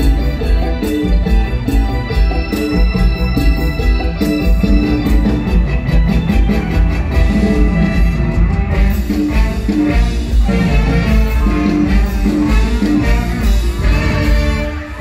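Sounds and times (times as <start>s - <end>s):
live band music with heavy bass: 0.0s - 15.0s.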